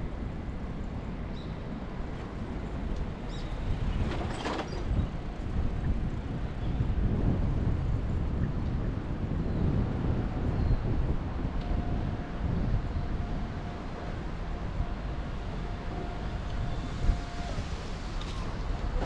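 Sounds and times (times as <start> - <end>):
city traffic rumble: 0.0 - 19.0
wind on microphone: 0.0 - 19.0.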